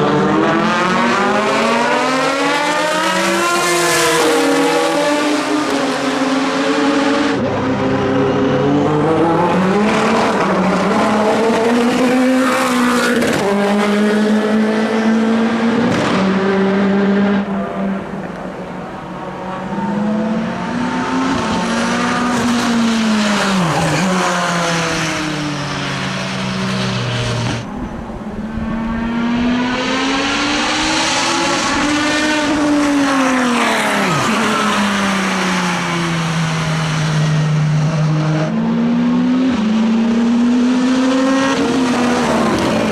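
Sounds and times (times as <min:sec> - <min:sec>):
race cars passing at speed: 0:00.0 - 0:42.9.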